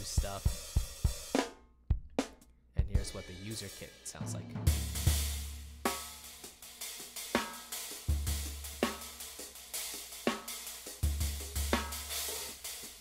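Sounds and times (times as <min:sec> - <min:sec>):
hi-hat ticking: 0:00.0 - 0:01.5, 0:02.8 - 0:13.0
snare drum backbeat: 0:00.0 - 0:13.0.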